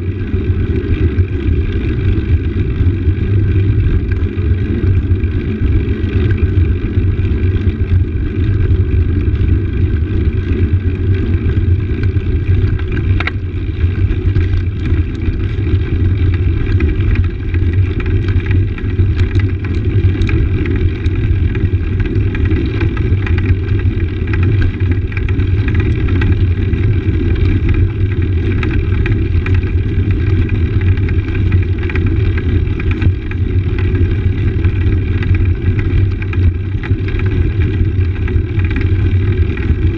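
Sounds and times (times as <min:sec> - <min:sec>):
bike tyres rumbling on stone: 0:00.0 - 0:39.9
wind rushing on camera: 0:00.0 - 0:39.9
bike rattling clicks: 0:04.0 - 0:39.8.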